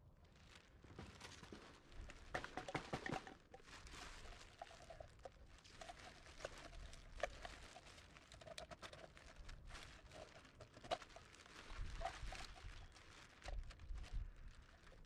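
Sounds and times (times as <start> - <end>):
plastic bag rustling: 0.2 - 15.0.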